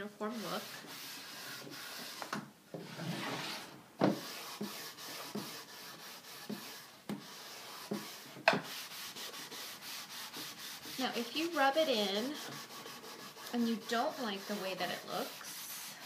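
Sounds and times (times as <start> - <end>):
cloth rag rubbing wood: 0.2 - 16.0.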